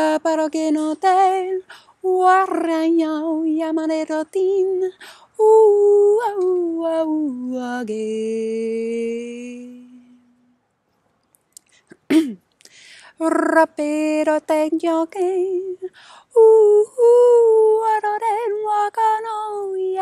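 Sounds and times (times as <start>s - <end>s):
woman singing wordless syllables: 0.0s - 10.4s, 13.1s - 20.0s.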